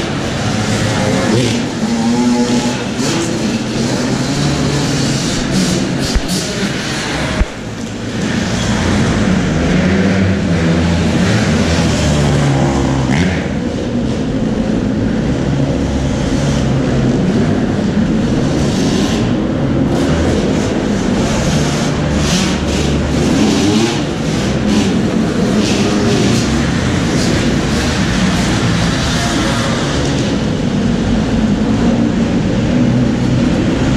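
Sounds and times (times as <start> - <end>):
dirt bikes revving: 0.0 - 33.9.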